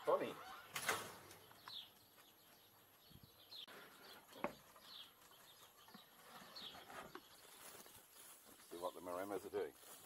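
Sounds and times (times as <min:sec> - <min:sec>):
faint bird chirping: 0:01.3 - 0:10.0.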